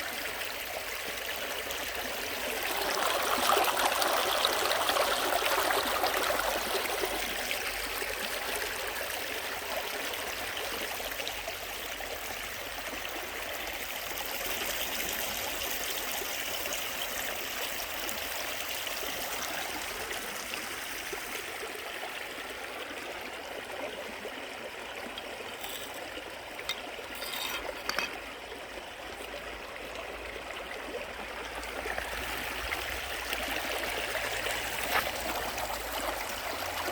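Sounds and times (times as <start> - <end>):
stream flowing over rocks: 0.0 - 36.9.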